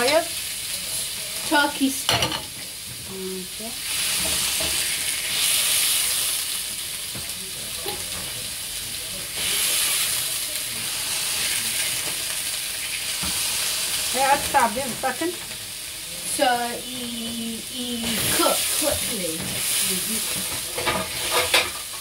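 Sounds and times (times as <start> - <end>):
meat sizzling in a grill pan: 0.0 - 22.0.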